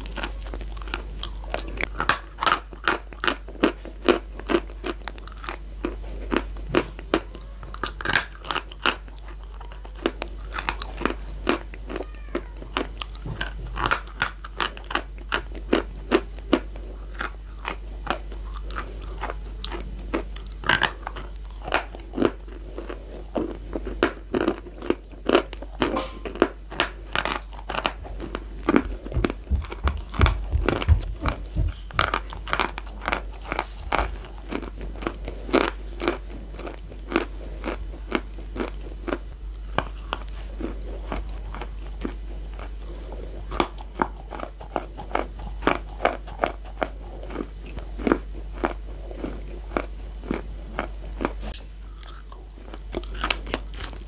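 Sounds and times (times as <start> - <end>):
crunching and chewing chalk: 0.0 - 54.0.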